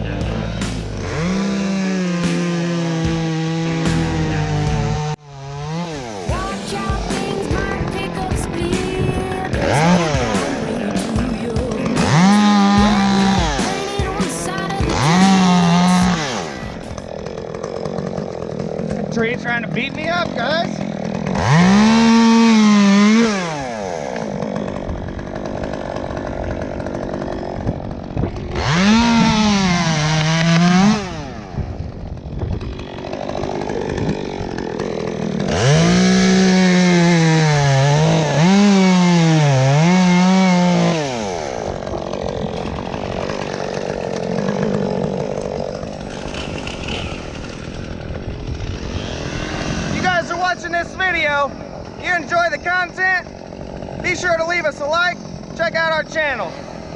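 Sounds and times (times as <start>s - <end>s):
chainsaw revving and cutting: 0.0s - 56.9s.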